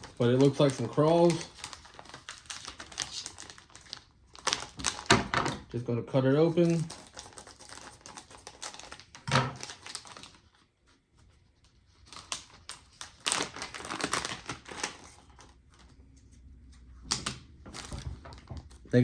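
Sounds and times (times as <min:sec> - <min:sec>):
plastic crinkling and rustling: 0:00.0 - 0:19.0.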